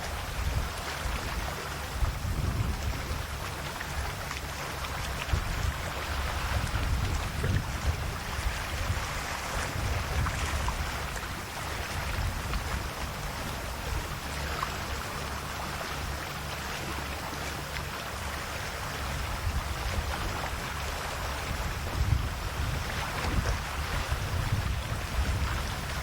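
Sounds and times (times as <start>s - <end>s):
sea waves lapping on shore: 0.0s - 26.0s.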